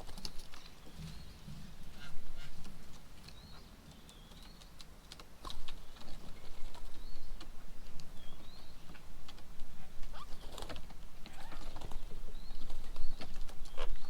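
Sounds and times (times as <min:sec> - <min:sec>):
birds pecking at a bird table: 0:00.0 - 0:14.0.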